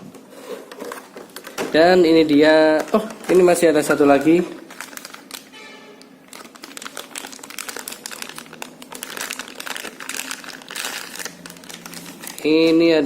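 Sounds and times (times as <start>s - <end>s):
packaging crinkling: 0.4s - 12.9s.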